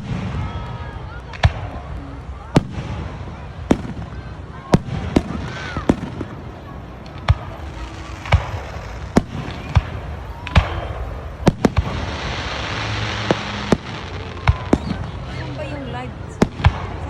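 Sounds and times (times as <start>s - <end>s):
fireworks bangs: 0.0s - 17.0s
fireworks crackling hiss: 0.0s - 17.0s.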